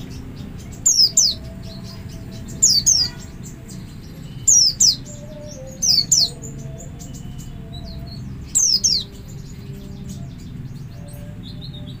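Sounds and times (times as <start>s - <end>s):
bird twittering: 0.0s - 12.0s
low background hum: 0.0s - 12.0s.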